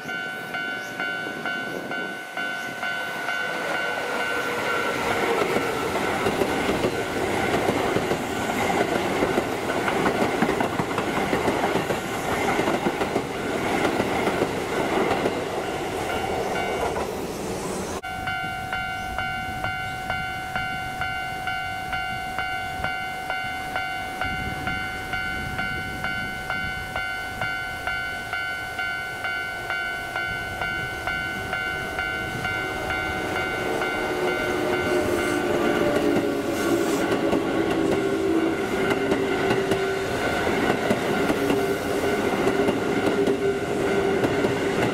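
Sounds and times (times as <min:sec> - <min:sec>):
electric train passing: 0:00.0 - 0:44.9
train approaching: 0:00.0 - 0:44.9.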